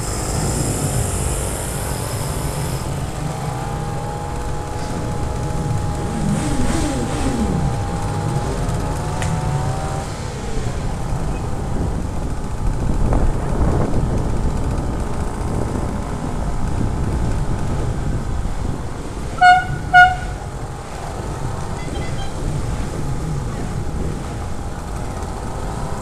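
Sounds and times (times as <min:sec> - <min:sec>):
small motorcycle engines running: 0:00.0 - 0:26.0.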